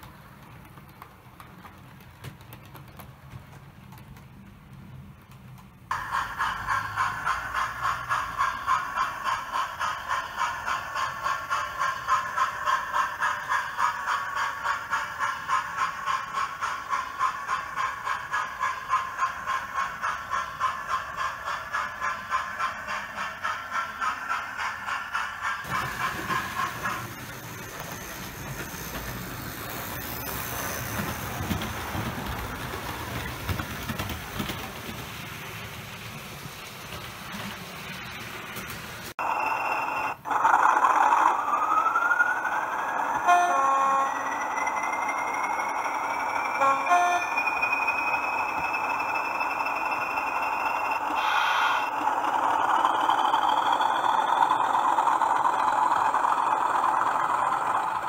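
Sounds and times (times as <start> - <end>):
model locomotive exhaust beat: 0.0 - 58.0.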